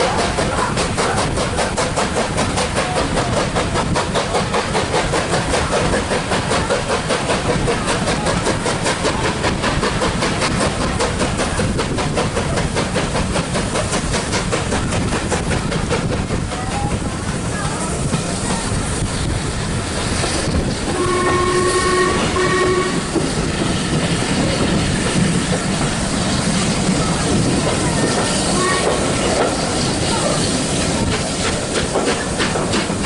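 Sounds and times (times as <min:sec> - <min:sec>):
steam locomotive exhaust beats: 0:00.0 - 0:33.0
train running noise: 0:00.0 - 0:33.0.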